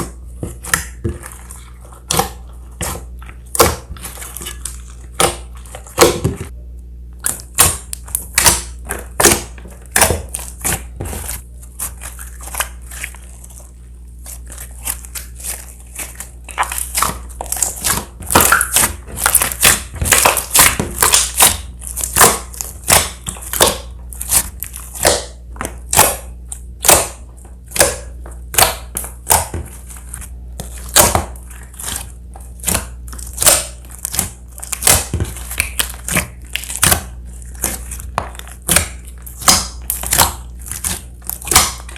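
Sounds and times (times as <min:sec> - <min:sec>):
low steady hum: 0:00.0 - 0:41.9
slime popping and crackling: 0:07.2 - 0:41.9.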